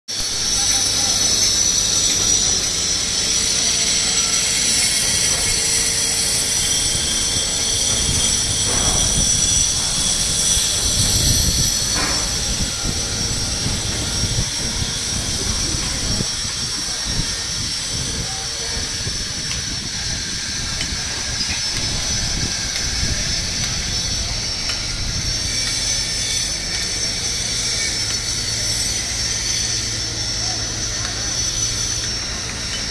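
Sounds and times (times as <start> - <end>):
distant machinery and traffic rumble: 0.3 - 32.9.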